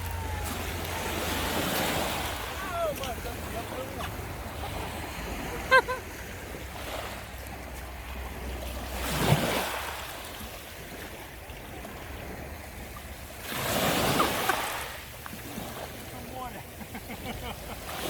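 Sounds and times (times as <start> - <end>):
water lapping around boat: 0.0 - 18.0
water swishes: 0.0 - 18.0.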